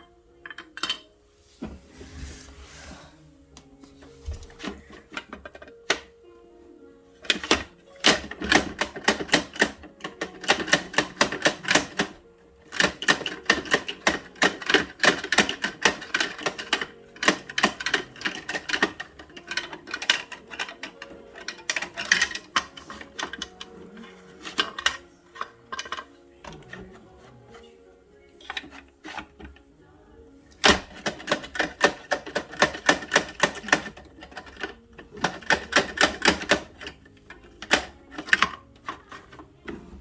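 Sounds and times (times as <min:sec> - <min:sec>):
plastic toy trucks clicking: 0:00.0 - 0:01.1, 0:04.4 - 0:06.2, 0:07.2 - 0:27.7, 0:28.4 - 0:29.7, 0:30.5 - 0:39.8.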